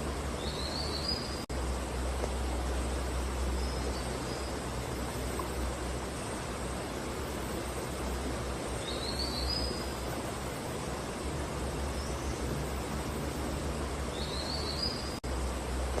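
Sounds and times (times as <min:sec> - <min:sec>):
hiss-like outdoor ambience: 0:00.0 - 0:16.0
low hum: 0:00.0 - 0:16.0.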